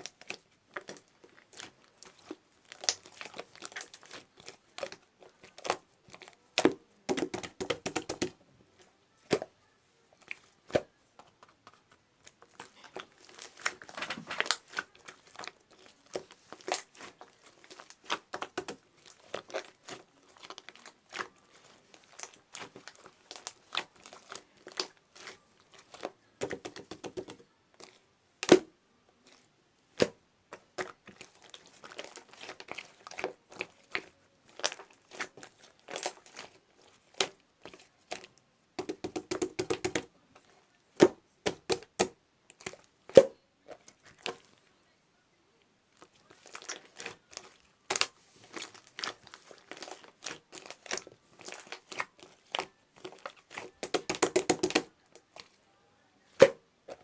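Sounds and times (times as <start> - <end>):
crinkling and clicking handling noises: 0.0 - 9.6, 10.2 - 42.9, 43.7 - 44.7, 45.9 - 55.6.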